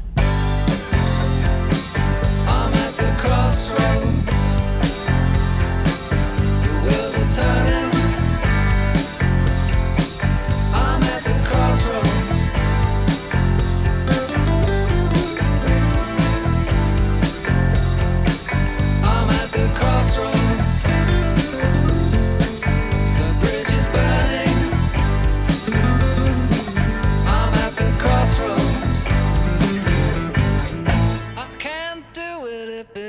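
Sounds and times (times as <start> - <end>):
rock music with guitar: 0.0 - 32.2.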